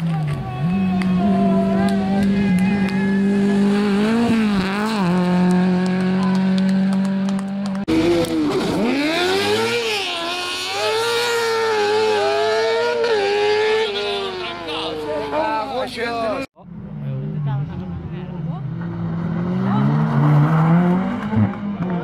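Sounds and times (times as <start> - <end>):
buggy engine revving: 0.0 - 15.4, 16.6 - 22.0
rally car engine revving: 0.0 - 15.4, 16.6 - 22.0.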